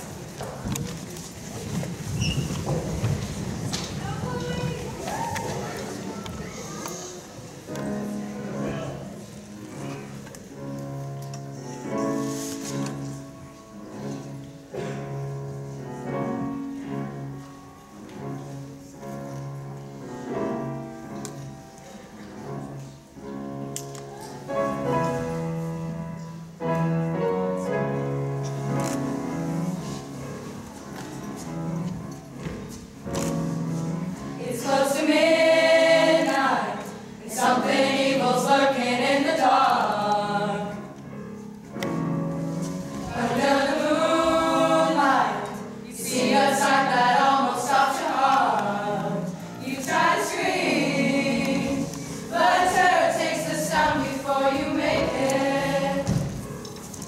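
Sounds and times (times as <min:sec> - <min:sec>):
low steady accompaniment: 0:02.8 - 0:57.0.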